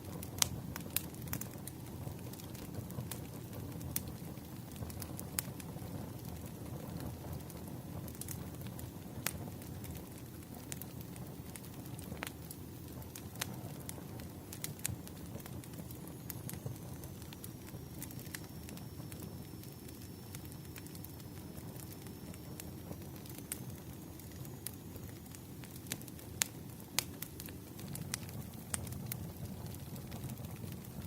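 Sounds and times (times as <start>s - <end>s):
campfire flame rumble: 0.0s - 31.0s
wood crackling and popping: 0.0s - 31.0s.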